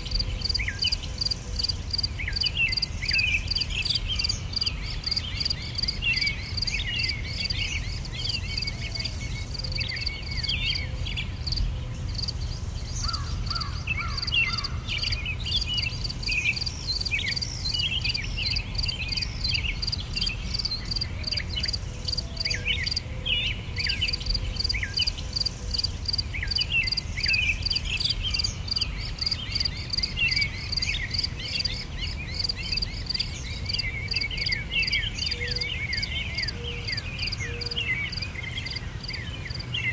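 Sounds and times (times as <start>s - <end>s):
crickets trilling: 0.0s - 23.1s, 23.8s - 39.8s
birds chirping: 0.0s - 39.9s.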